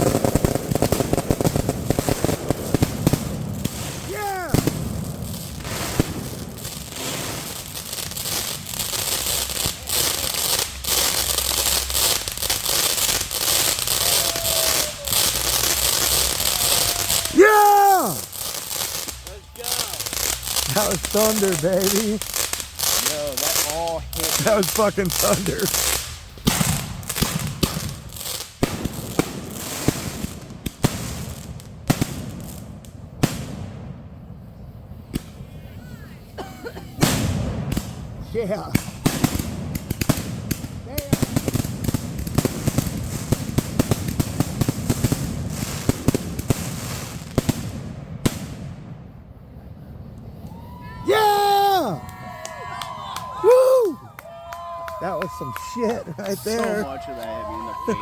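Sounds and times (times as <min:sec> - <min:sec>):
fireworks crackling and popping: 0:00.0 - 0:58.0.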